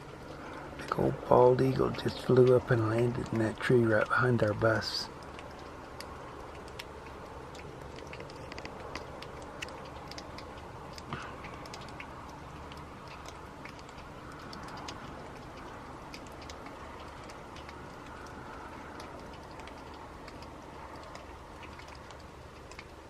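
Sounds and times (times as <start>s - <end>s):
low background rumble: 0.0s - 23.0s
raindrops ticking: 0.0s - 23.0s.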